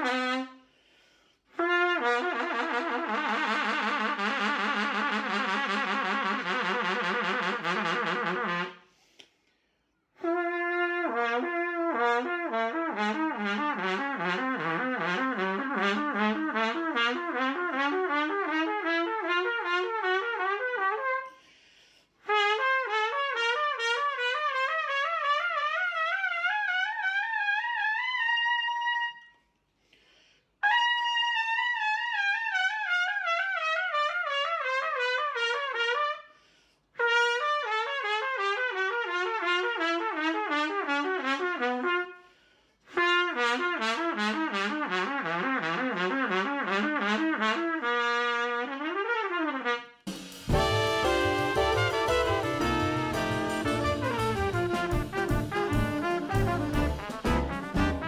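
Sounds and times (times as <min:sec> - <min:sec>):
solo trumpet: 0:00.0 - 0:00.9, 0:01.5 - 0:09.0, 0:10.2 - 0:21.5, 0:22.2 - 0:29.4, 0:30.6 - 0:58.0.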